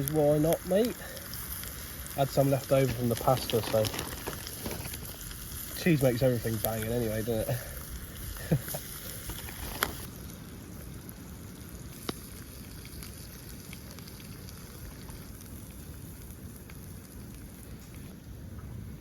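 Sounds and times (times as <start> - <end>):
eggs and bacon sizzling in a pan: 0.0 - 18.1.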